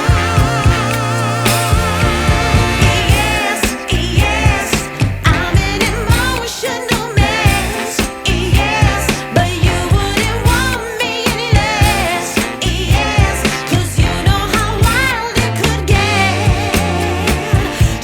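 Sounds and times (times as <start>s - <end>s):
woman singing pop soul song: 0.0s - 18.0s.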